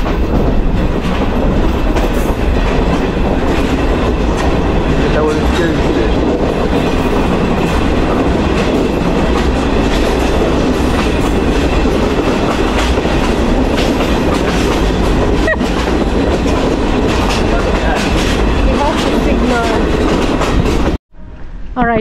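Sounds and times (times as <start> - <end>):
wheels clacking over rail joints: 0.0 - 21.0
train cars rumbling and rattling: 0.0 - 22.0.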